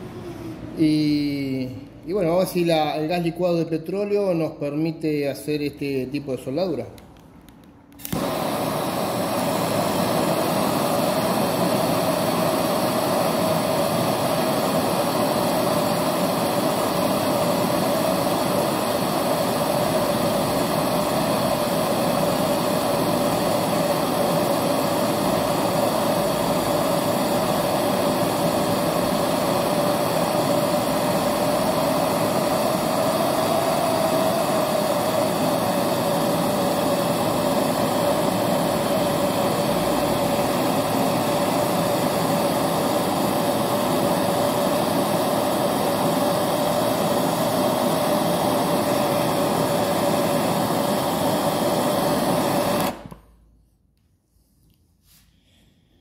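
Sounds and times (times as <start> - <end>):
gas torch flame hissing: 7.9 - 53.4.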